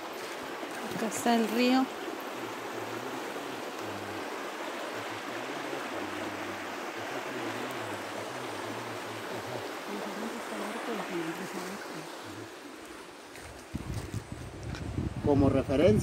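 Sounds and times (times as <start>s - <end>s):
river water rushing over rocks: 0.0s - 14.5s.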